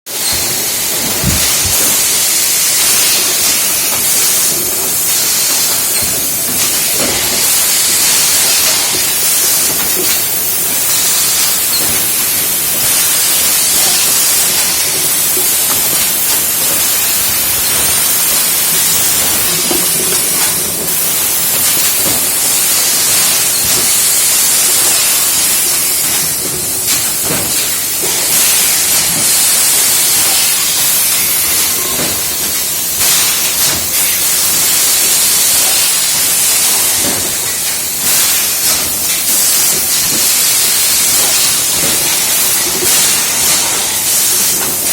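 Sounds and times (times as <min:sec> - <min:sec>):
compressed air hissing: 0:00.2 - 0:44.9.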